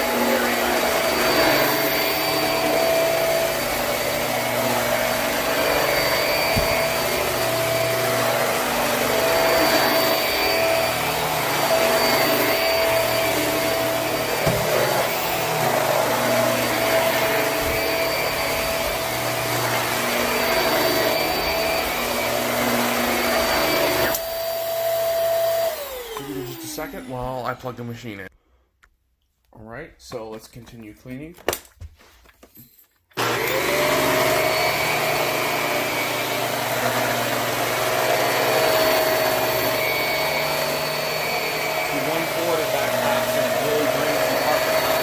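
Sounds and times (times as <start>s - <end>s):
vacuum cleaner running on carpet: 0.0s - 27.1s, 33.2s - 45.0s.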